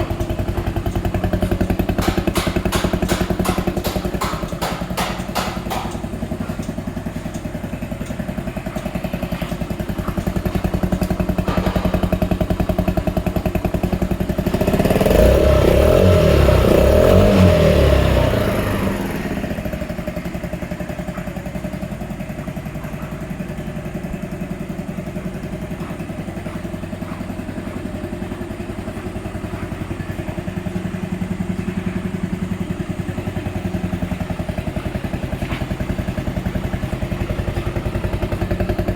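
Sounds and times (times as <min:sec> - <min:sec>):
scooter engine idling and revving: 0:00.0 - 0:38.9.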